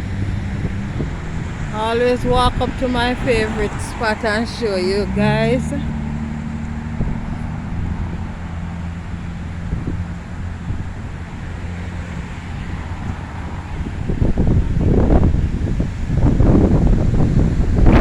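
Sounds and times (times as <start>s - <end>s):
distant traffic hum: 0.0s - 18.0s
wind rumbling on microphone: 0.0s - 18.0s.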